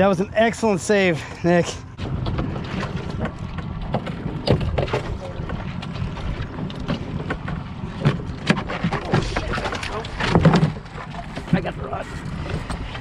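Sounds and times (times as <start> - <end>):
steady low rumble: 0.0 - 13.0
wind buffeting microphone: 1.8 - 13.0.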